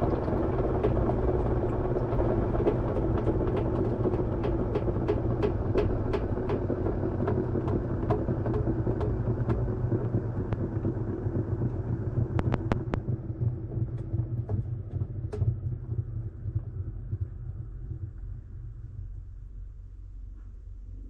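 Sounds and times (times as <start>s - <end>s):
washing machine motor hum: 0.0s - 19.2s.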